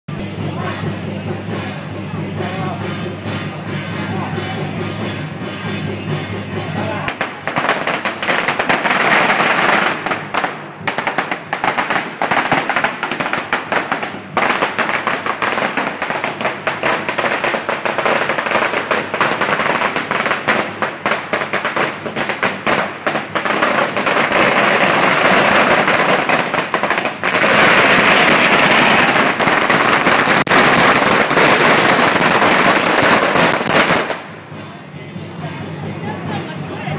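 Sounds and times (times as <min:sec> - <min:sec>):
firecrackers crackling: 0:00.1 - 0:36.9.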